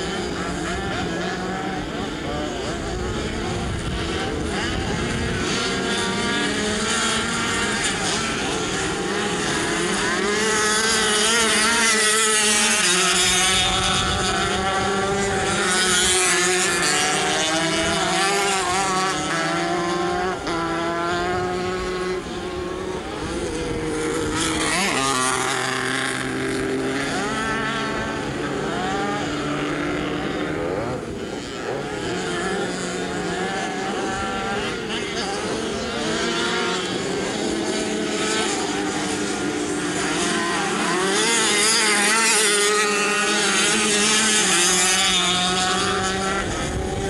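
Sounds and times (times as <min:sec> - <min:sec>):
motorcycle engines running hard: 0:00.0 - 0:47.0.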